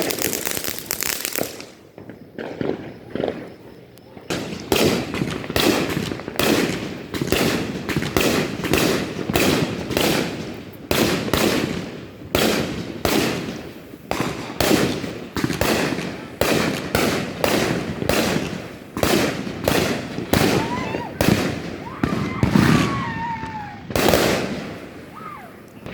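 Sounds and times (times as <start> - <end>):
fireworks banging with echo: 0.0 - 25.9.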